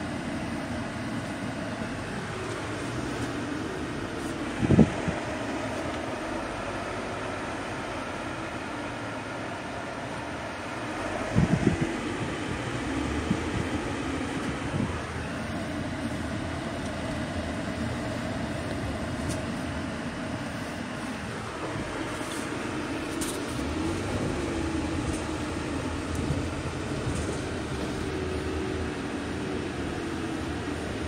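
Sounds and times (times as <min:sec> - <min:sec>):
car engine hum: 0:00.0 - 0:31.0
road noise: 0:00.0 - 0:31.0.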